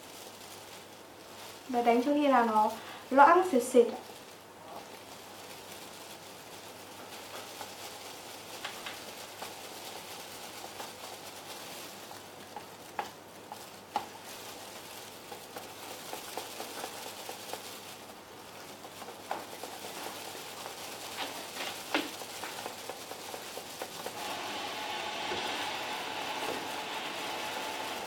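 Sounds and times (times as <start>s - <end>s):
wet batter stirring: 5.0s - 28.0s.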